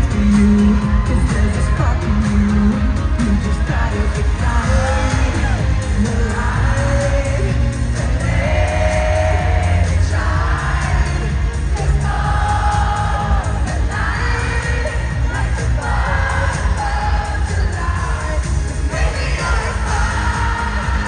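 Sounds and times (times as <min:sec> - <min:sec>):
heavy bass: 0:00.0 - 0:21.0.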